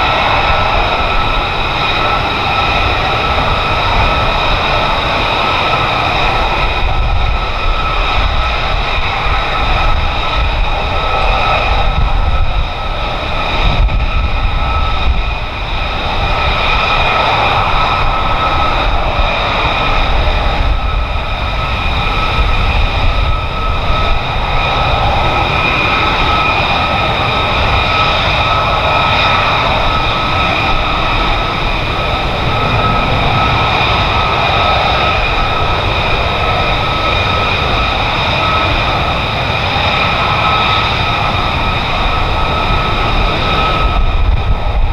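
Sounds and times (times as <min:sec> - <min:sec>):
jet engine rumble and whine: 0:00.0 - 0:44.9.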